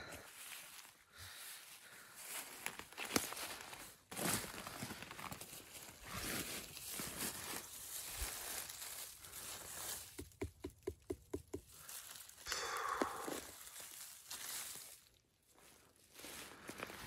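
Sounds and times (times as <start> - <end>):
footsteps through undergrowth: 0.1 - 10.7, 11.6 - 17.0.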